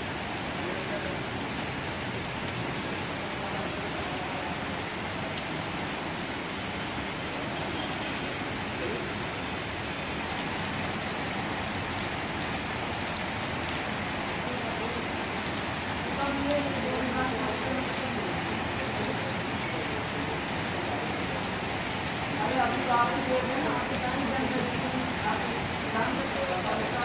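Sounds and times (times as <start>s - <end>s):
rain splashing on wet road: 0.0s - 27.0s.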